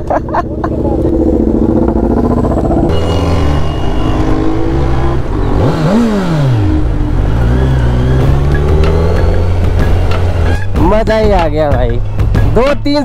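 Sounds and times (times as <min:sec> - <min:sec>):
motorcycle engine revving: 0:00.4 - 0:11.4.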